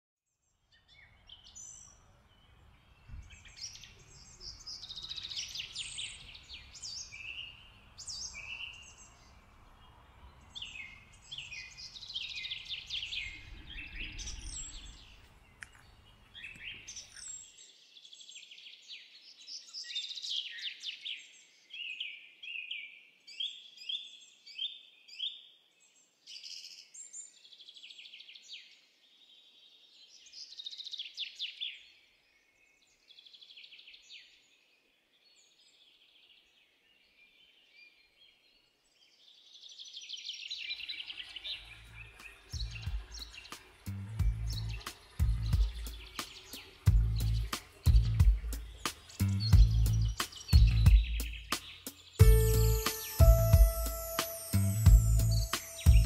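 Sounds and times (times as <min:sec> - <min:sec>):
small birds chirping: 0:00.7 - 0:56.0.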